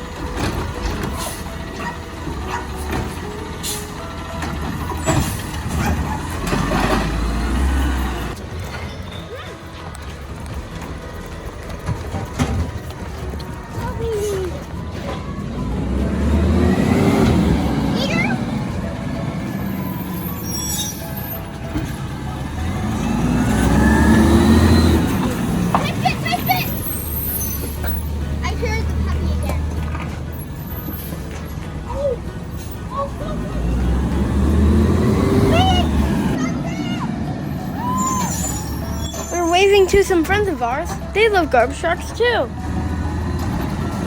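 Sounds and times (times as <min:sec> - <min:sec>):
truck engine rumbling: 0:00.0 - 0:44.0.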